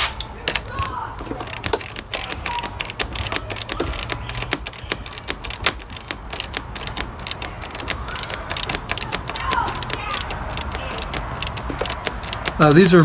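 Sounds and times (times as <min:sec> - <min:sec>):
ratchet wrench clicking: 0:00.0 - 0:13.0.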